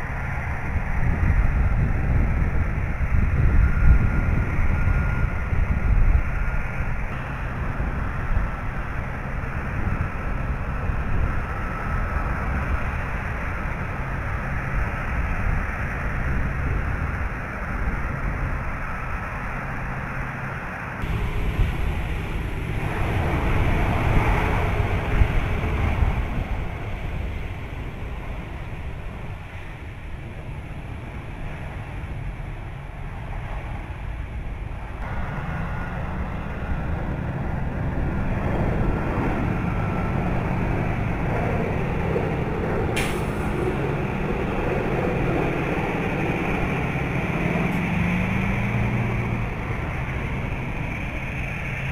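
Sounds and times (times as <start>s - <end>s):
jet engines rumbling: 0.0s - 51.9s.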